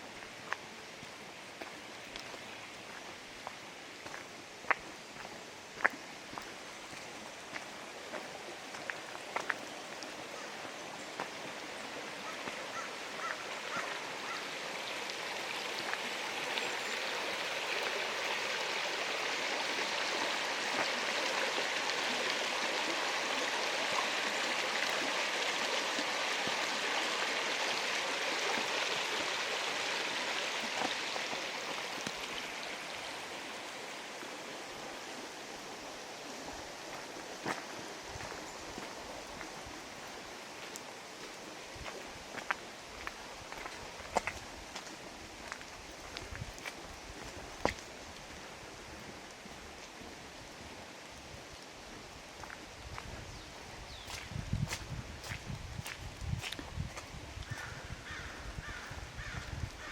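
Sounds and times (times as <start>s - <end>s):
stream running water: 0.0s - 59.9s.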